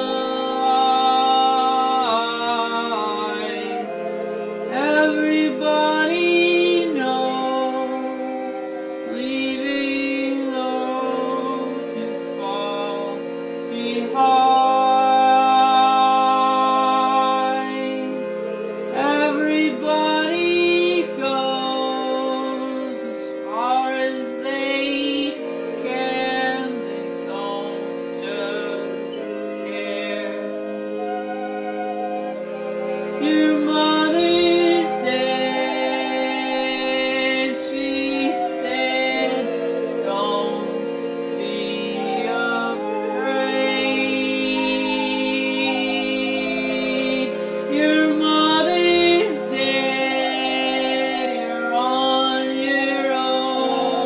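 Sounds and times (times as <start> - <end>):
person singing: 0.0 - 54.0
sustained chords: 0.0 - 54.0.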